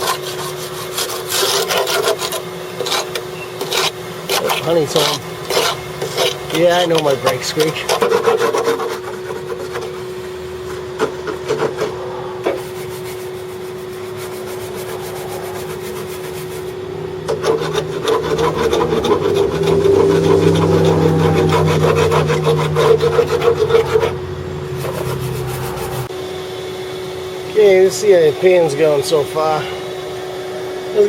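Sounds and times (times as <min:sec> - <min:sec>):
wire brush scrubbing metal: 0:00.0 - 0:26.1
vacuum cleaner humming: 0:02.4 - 0:31.0.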